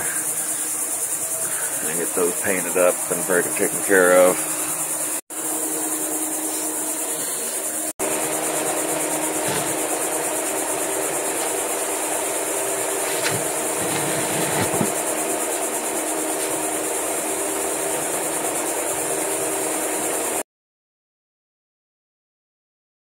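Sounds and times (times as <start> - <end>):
insects buzzing: 0.0 - 20.4.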